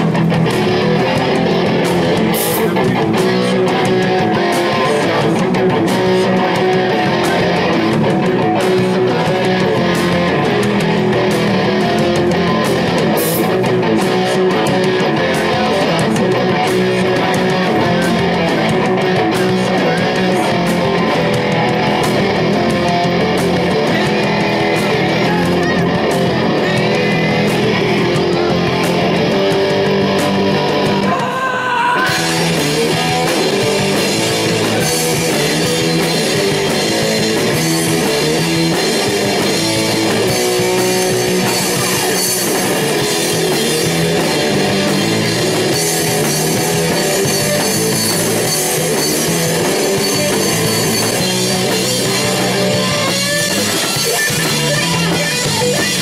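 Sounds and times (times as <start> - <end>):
drum kit with cymbals: 0.0 - 56.0
electric guitars: 0.0 - 56.0.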